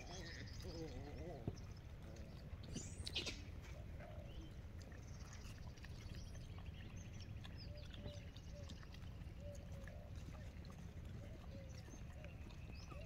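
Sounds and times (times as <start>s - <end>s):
soft bird calls: 0.0s - 13.0s.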